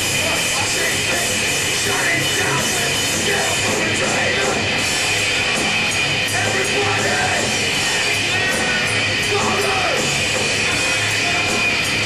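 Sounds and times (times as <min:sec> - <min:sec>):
live rap metal band: 0:00.0 - 0:12.0.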